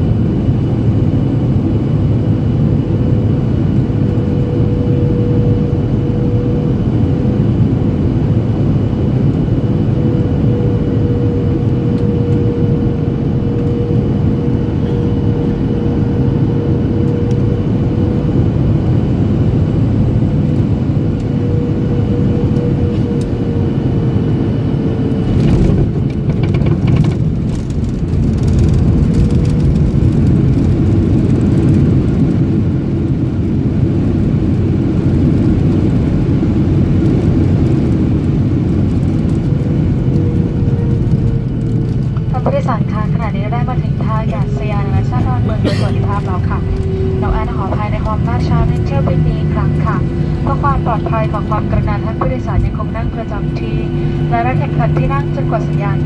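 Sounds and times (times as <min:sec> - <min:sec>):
jet engine drone with fan whine: 0:00.0 - 0:56.0.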